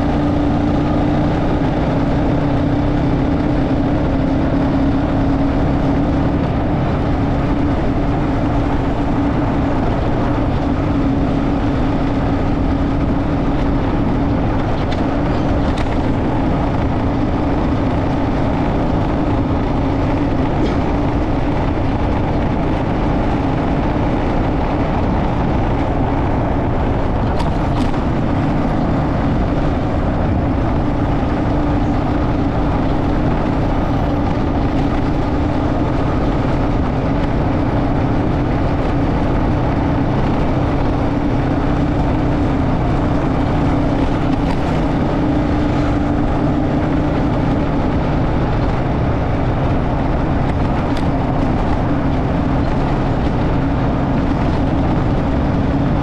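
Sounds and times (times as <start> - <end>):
motorcycle engine hum: 0.0 - 56.0
wind rumble: 0.0 - 56.0.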